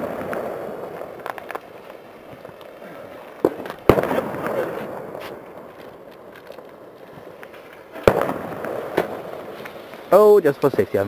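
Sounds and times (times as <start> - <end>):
firework bangs: 0.0 - 10.8
firework crackle: 0.0 - 11.0.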